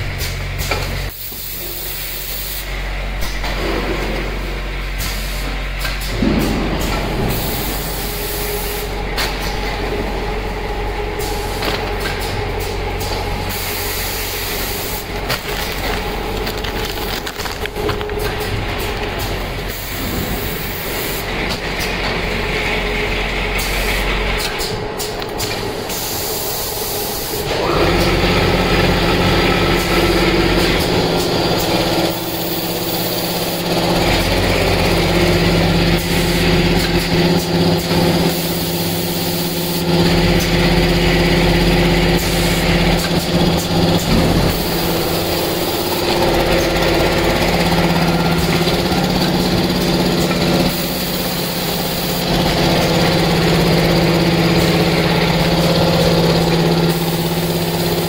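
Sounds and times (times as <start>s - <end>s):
machine hiss: 0.0s - 3.5s, 4.9s - 9.8s, 10.6s - 17.0s, 17.6s - 22.0s, 23.5s - 58.0s
machine motor hum: 0.0s - 58.0s.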